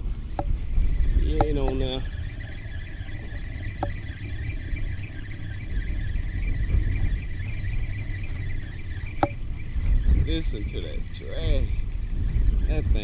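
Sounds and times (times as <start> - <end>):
wind rumble on microphone: 0.0 - 13.0
fishing reel drag buzzing: 0.6 - 13.0.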